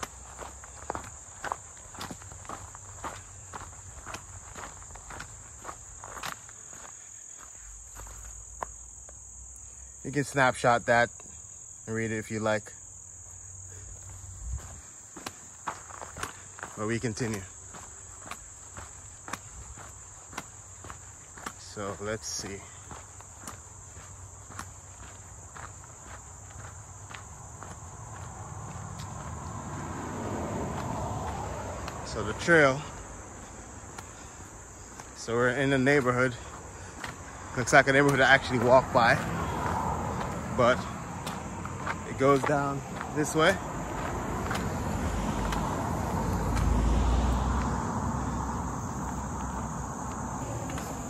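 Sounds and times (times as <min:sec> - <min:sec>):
car passing on road: 0:00.0 - 0:10.2, 0:13.6 - 0:51.0
crickets trilling: 0:00.0 - 0:51.0
footsteps on a trail: 0:00.0 - 0:51.0
high-pitched insect chorus: 0:00.0 - 0:51.0.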